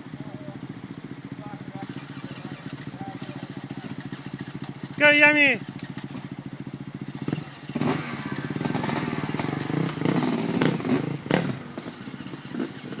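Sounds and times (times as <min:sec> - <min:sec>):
dirt bike engine chugging: 0:00.0 - 0:13.0.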